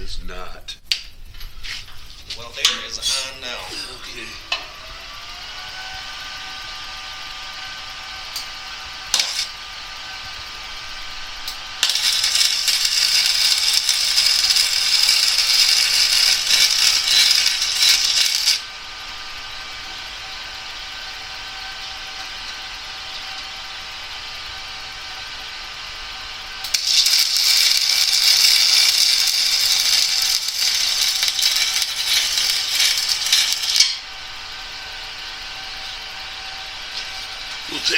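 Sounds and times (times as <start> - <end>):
welder hum: 0.9 - 37.9
arc welding crackle: 5.5 - 37.9.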